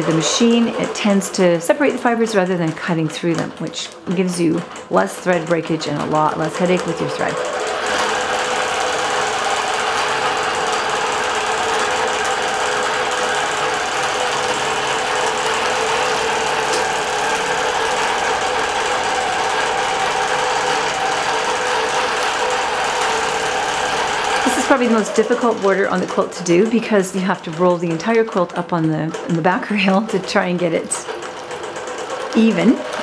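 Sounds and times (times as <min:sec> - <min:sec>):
motor hum: 0:00.0 - 0:33.0
sewing machine needle strokes: 0:00.0 - 0:33.0.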